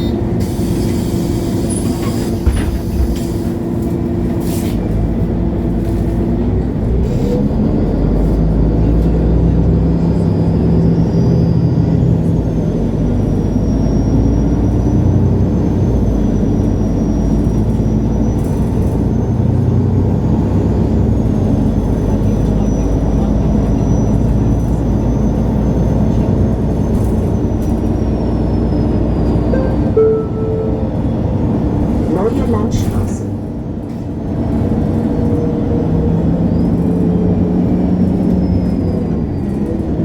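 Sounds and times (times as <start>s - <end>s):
bus engine running: 0.0s - 40.0s.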